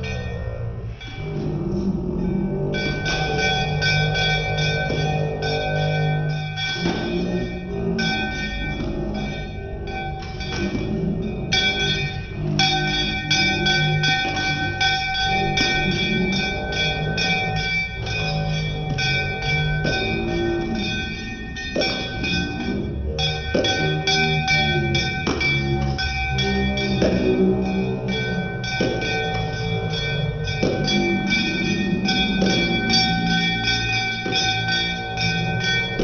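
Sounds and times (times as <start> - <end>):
brass hand bell ringing rapidly: 0.0 - 36.0
voices singing: 0.0 - 36.0.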